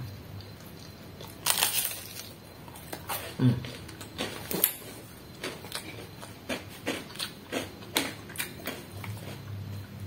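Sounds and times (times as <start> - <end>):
man chewing: 0.3 - 10.0.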